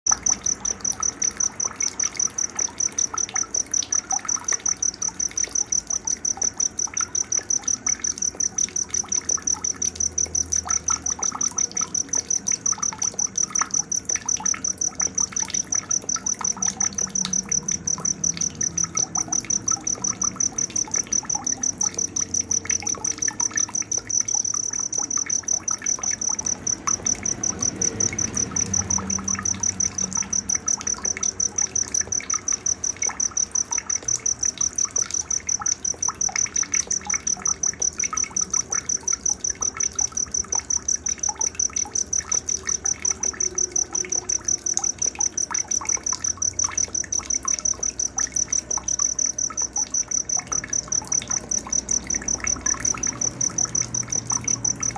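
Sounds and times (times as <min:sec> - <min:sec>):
cricket chirping: 0:00.1 - 0:54.9.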